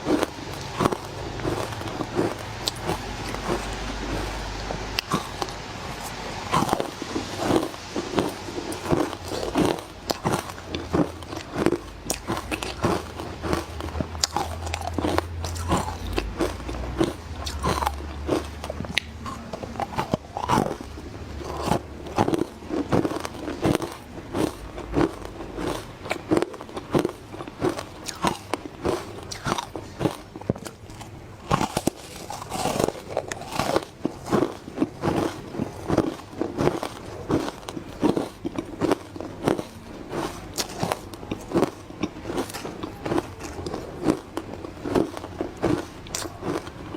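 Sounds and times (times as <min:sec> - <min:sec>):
chewing: 0:00.0 - 0:46.9
crunching frozen ice: 0:00.0 - 0:46.9.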